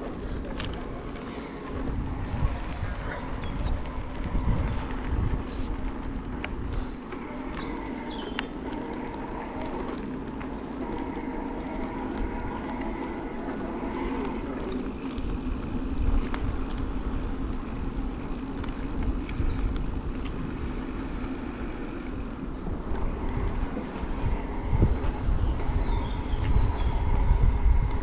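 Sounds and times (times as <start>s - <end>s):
tyre and road noise: 0.0s - 28.0s
wind rumbling on microphone: 0.0s - 28.0s.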